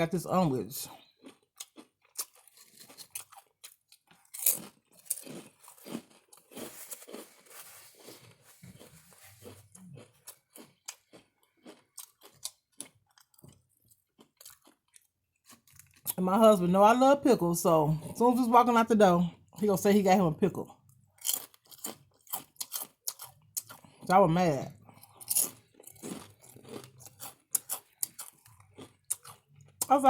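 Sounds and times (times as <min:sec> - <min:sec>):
person eating crunchy food: 0:00.9 - 0:16.2, 0:20.7 - 0:30.0.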